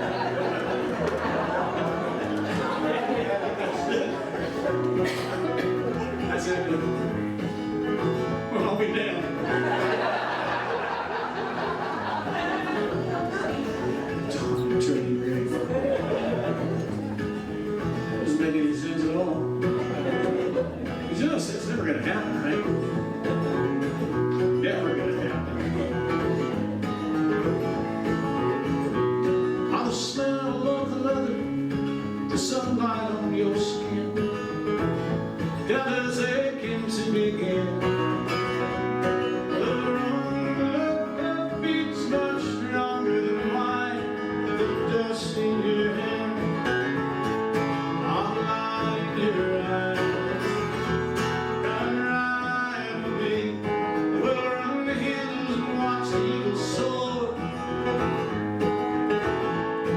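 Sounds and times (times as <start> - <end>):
acoustic guitar country music: 0.0 - 59.9.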